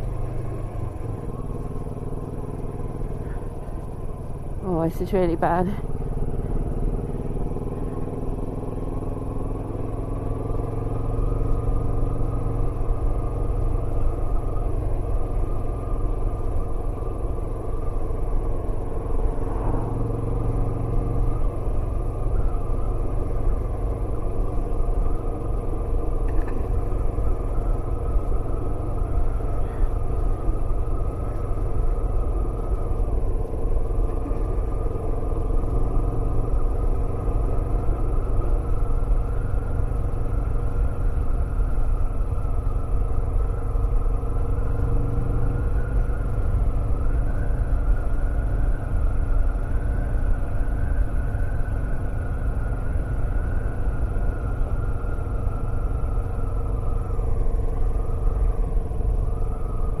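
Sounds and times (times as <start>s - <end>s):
motorcycle engine cruising: 0.0s - 60.0s
wind and road noise: 0.0s - 60.0s.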